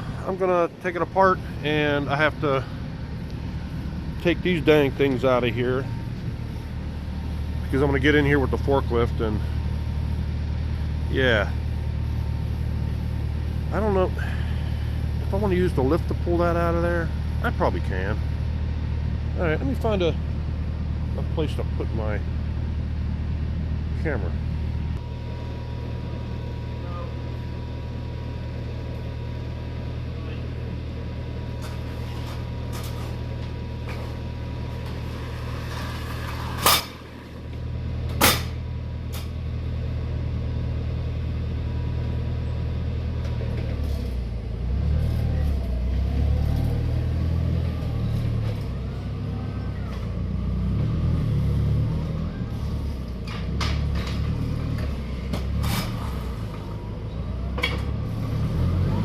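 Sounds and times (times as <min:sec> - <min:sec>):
forklift engine idling: 0:00.0 - 0:59.0.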